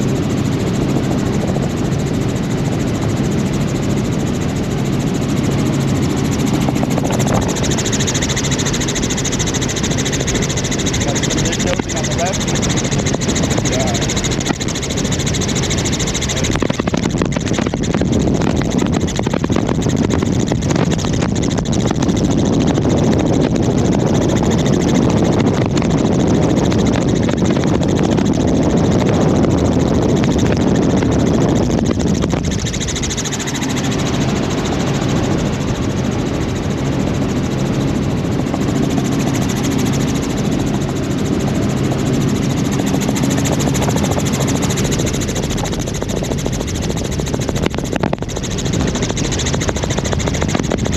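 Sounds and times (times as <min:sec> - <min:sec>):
helicopter engine and rotor drone: 0:00.0 - 0:50.9.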